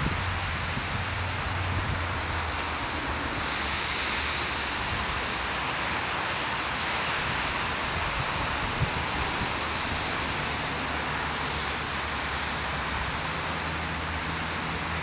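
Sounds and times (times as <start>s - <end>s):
hiss of wet snowfall: 0.0s - 15.0s
road traffic hum: 0.0s - 15.0s.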